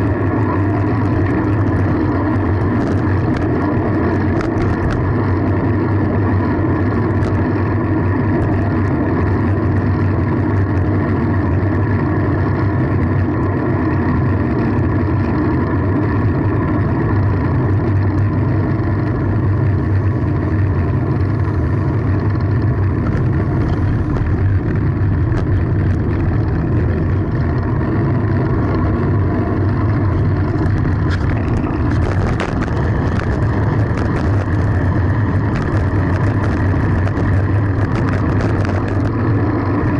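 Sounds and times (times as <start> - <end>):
bicycle road noise: 0.0 - 39.9
wind rushing on microphone: 0.0 - 39.9.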